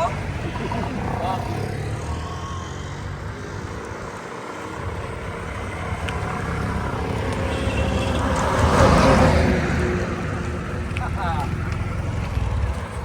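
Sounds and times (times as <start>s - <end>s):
auto-rickshaw engine rumble: 0.0s - 13.0s.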